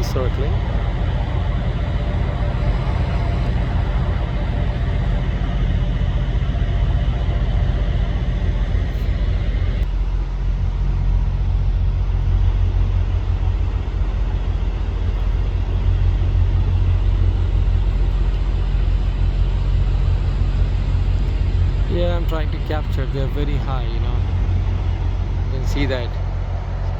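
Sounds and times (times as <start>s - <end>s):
low outdoor rumble: 0.0s - 26.9s.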